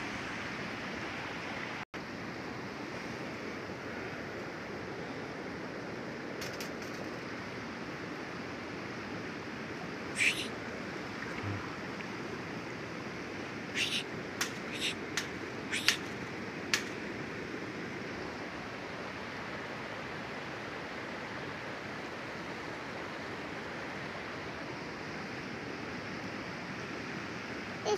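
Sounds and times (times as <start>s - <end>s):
stream water running: 0.0s - 27.9s.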